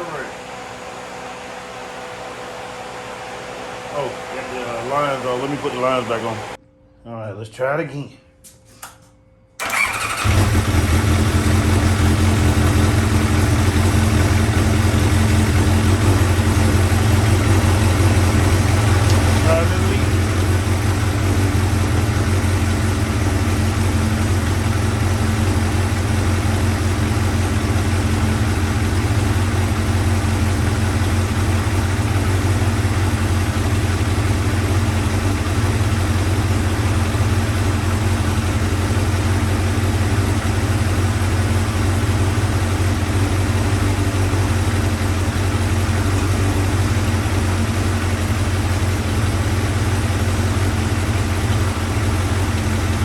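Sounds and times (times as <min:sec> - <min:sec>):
motorcycle engine idling: 0:00.0 - 0:06.6, 0:09.6 - 0:53.0.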